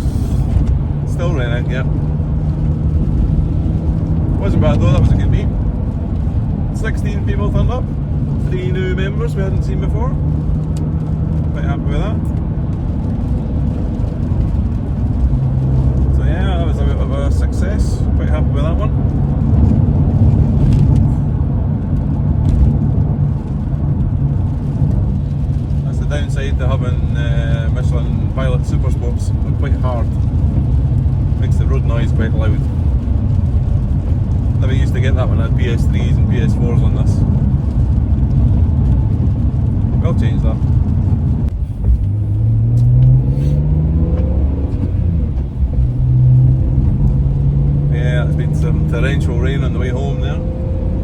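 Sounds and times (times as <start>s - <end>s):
road and tyre roar in car: 0.0s - 51.0s.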